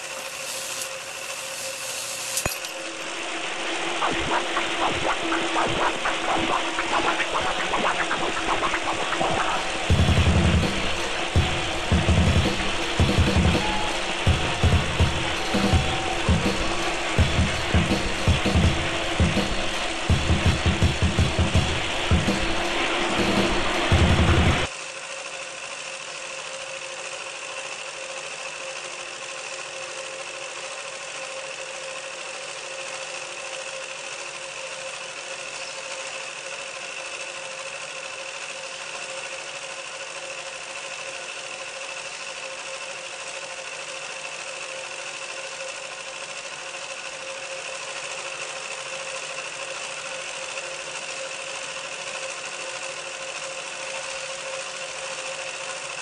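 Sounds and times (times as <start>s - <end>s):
mechanical drone with hiss and whine: 0.0s - 56.0s.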